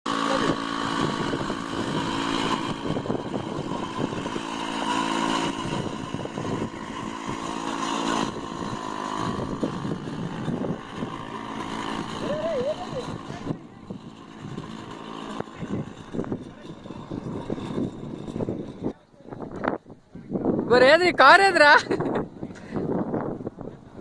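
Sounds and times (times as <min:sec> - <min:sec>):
small car engine running: 0:00.1 - 0:19.8.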